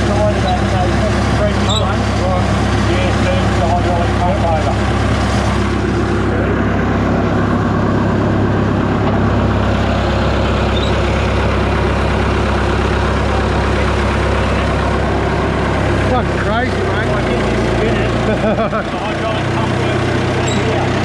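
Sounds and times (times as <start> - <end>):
wood chipper running: 0.0 - 21.0.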